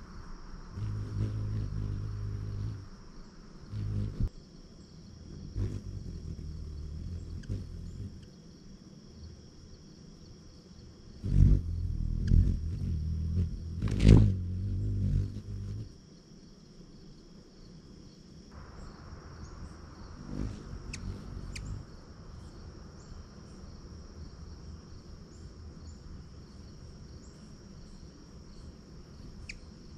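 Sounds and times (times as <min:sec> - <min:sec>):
hummingbird wings humming: 0:00.0 - 0:16.2, 0:18.8 - 0:29.9
insects trilling: 0:00.0 - 0:29.9.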